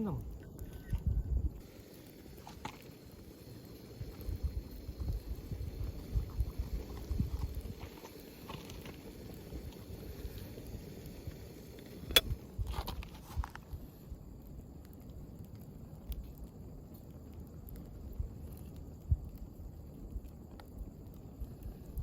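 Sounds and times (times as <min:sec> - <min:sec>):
faint ticks from fire: 0:00.0 - 0:22.0
fire cracking: 0:00.0 - 0:22.0
wood fire rumbling: 0:00.0 - 0:22.0.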